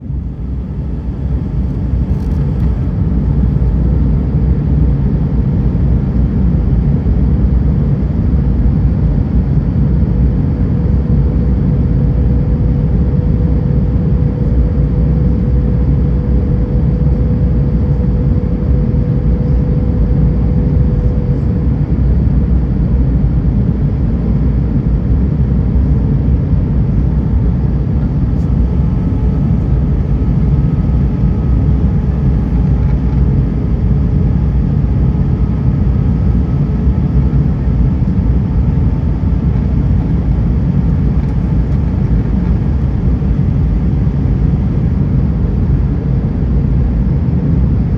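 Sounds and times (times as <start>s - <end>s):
aircraft cabin engine roar: 0.0s - 47.9s
faint steady whine: 0.0s - 47.9s.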